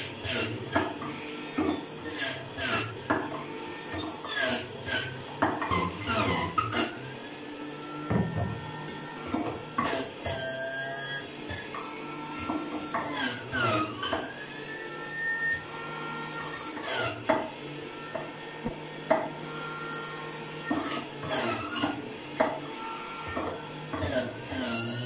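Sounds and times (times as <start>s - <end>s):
juicer motor whining: 0.0s - 25.0s.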